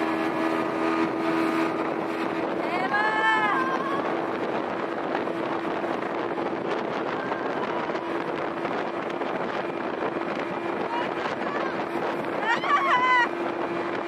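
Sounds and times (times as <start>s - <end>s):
motorboat engine drone: 0.0s - 14.0s
water against hull: 0.0s - 14.0s
wind buffeting microphone: 0.0s - 14.0s.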